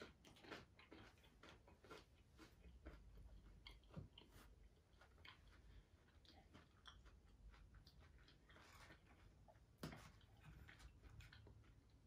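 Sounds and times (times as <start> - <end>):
chewing with mouth closed: 0.0 - 12.0.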